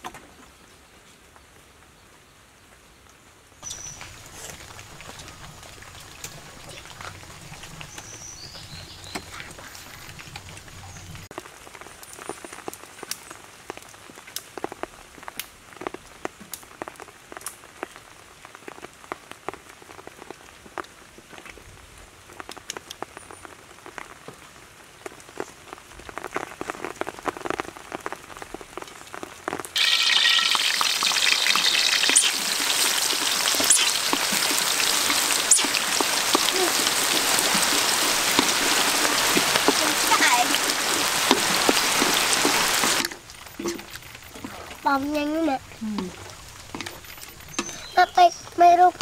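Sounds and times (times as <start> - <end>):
food deep-frying in oil: 3.6 - 49.0
oil crackling and popping: 3.6 - 49.0.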